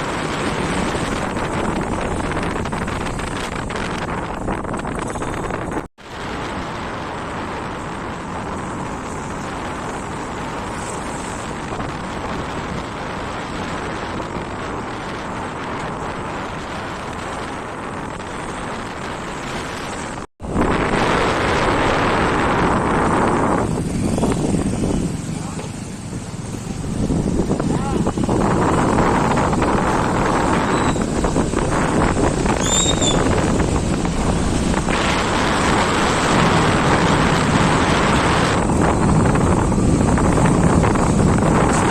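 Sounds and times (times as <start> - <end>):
vehicle road and wind noise: 0.0 - 41.9.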